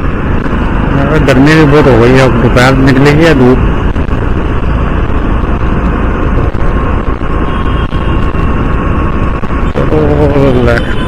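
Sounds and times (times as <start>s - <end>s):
passing traffic: 0.0s - 11.0s
wind rumble on microphone: 0.0s - 11.0s.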